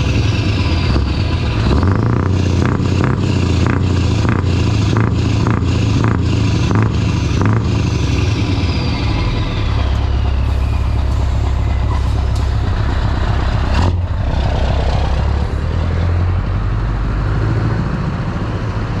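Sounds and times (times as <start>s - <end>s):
diesel engine running loud: 0.0s - 19.0s.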